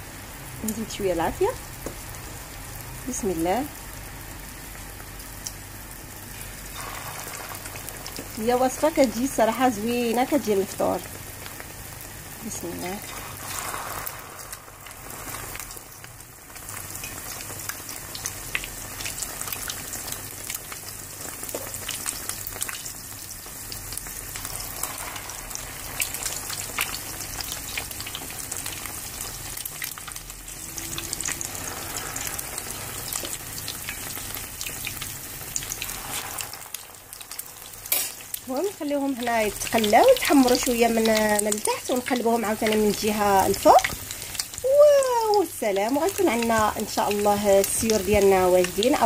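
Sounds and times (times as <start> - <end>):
bread sizzling in a frying pan: 0.0 - 49.0.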